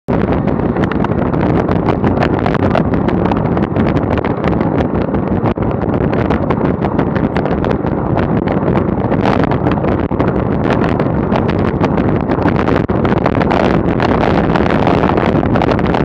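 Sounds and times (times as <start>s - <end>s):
rolling road noise: 0.1s - 16.0s
wind noise on microphone: 0.1s - 16.0s.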